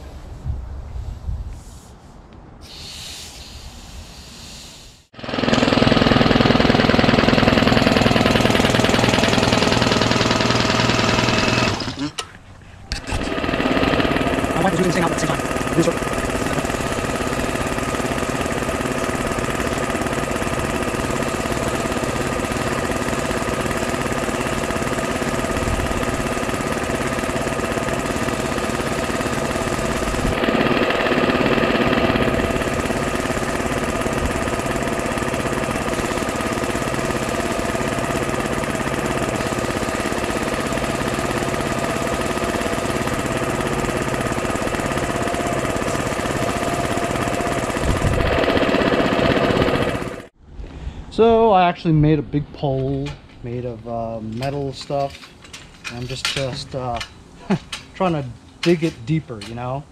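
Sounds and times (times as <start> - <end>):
air compressor chugging: 4.1 - 50.4, 54.1 - 59.9.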